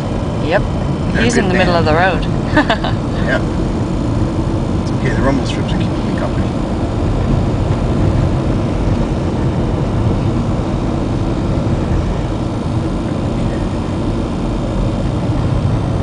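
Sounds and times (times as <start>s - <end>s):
road and engine noise: 0.0s - 16.0s.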